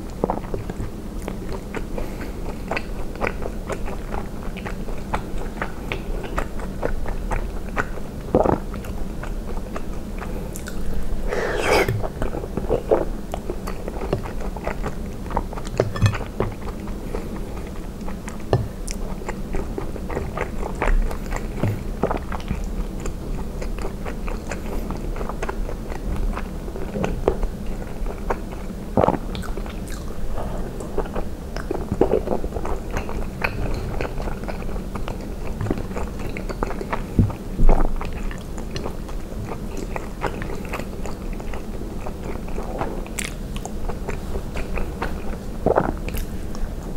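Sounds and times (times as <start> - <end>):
close chewing mouth sounds: 0.0 - 46.9.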